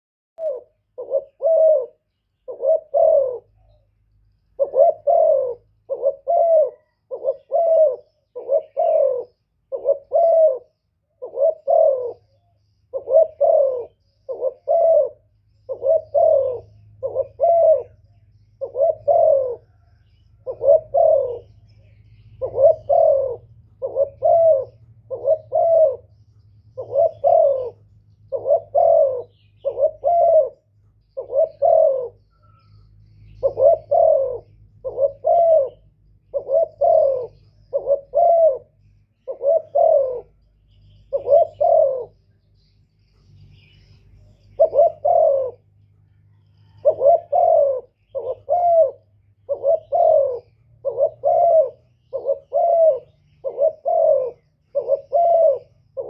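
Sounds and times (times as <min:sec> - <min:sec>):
dove cooing: 0:00.4 - 0:56.0.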